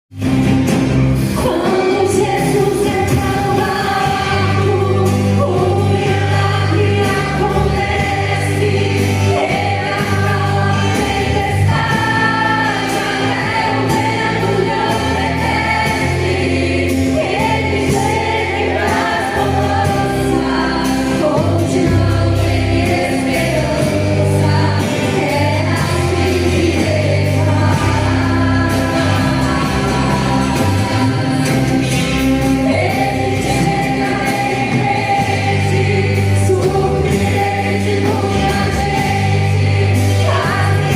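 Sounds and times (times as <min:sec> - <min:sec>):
instrumental backing with bass: 0:00.1 - 0:40.9
voices singing together: 0:01.2 - 0:40.9.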